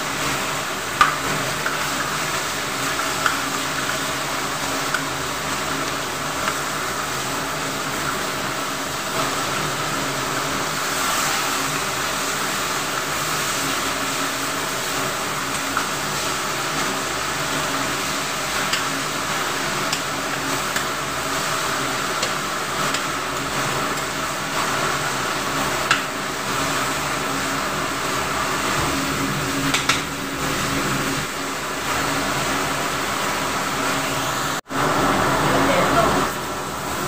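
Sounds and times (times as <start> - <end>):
low mechanical hum: 0.0 - 37.0
meat sizzling in a wok: 0.0 - 37.0.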